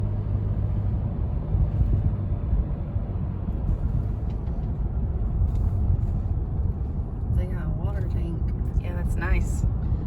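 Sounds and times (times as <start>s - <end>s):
car driving road noise: 0.0s - 10.0s.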